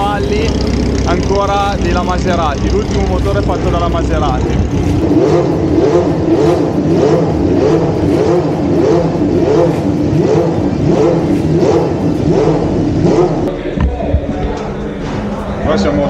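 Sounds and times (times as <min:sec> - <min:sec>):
racing car engine revving: 0:00.0 - 0:13.7.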